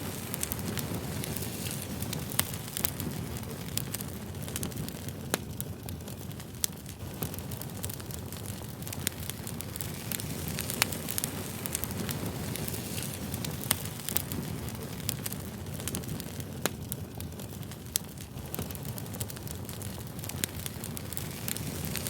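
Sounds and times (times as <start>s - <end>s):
burning wood crackling and popping: 0.0s - 22.0s
rush of campfire flames: 0.0s - 22.0s.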